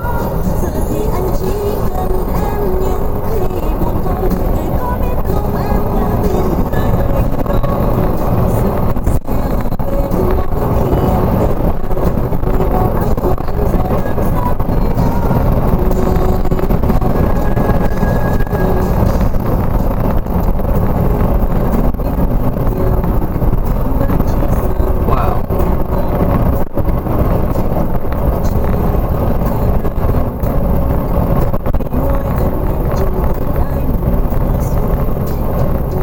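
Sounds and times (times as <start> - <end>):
vehicle road rumble: 0.0 - 36.0.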